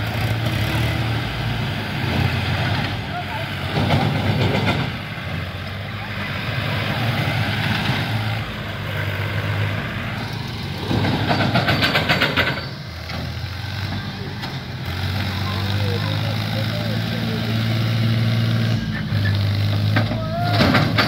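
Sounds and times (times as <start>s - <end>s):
engine rattling: 0.0s - 21.0s
tractor diesel engine running: 0.0s - 21.0s.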